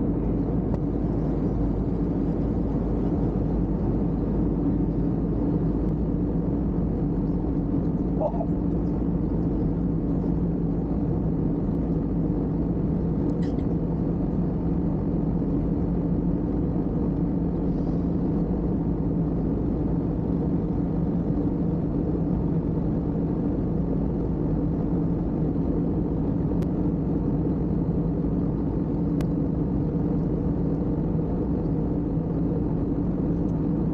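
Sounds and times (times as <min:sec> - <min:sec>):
airliner cabin engine roar: 0:00.0 - 0:33.9.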